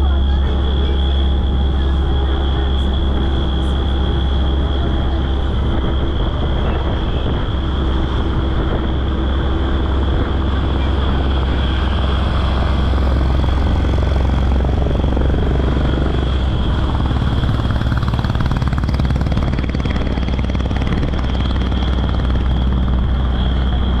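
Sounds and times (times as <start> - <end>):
high-pitched whine: 0.0 - 24.0
vehicle engine and tyres rumbling: 0.0 - 24.0.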